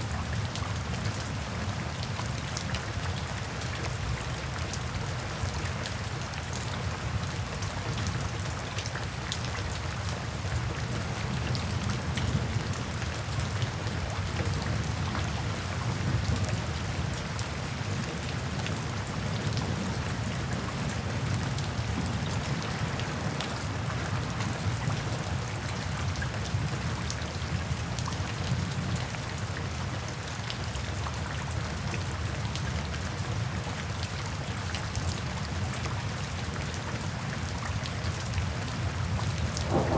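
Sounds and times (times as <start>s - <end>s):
raindrops pattering: 0.0s - 39.9s.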